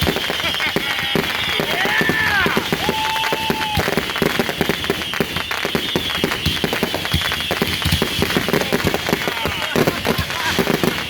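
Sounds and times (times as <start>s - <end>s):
fireworks bangs and crackles: 0.0s - 11.0s
high whistling of fireworks: 0.0s - 11.0s.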